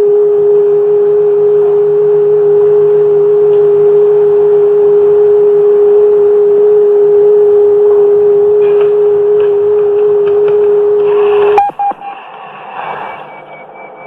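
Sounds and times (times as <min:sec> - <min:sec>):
loud electronic drone: 0:00.0 - 0:14.0.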